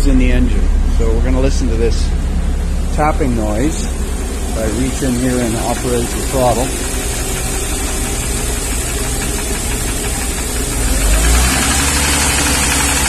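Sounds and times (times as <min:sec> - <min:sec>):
engine running with tapping knock: 0:00.0 - 0:13.0.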